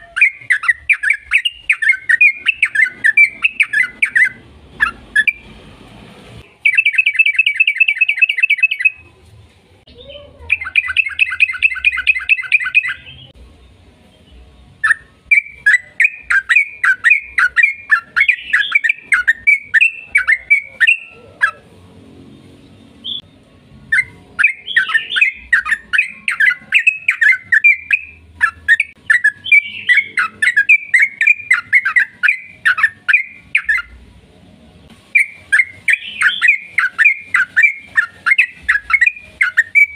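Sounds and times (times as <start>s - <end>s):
bulbul singing: 0.0s - 5.6s, 6.4s - 9.2s, 9.9s - 13.4s, 14.1s - 21.7s, 22.6s - 34.0s, 35.1s - 39.9s.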